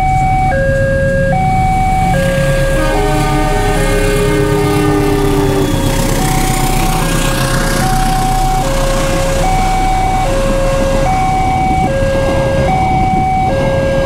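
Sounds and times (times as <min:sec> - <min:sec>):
level crossing alarm chimes: 0:00.0 - 0:02.7, 0:05.4 - 0:14.0
passing train rumble: 0:00.0 - 0:14.0
locomotive horn: 0:00.4 - 0:14.0.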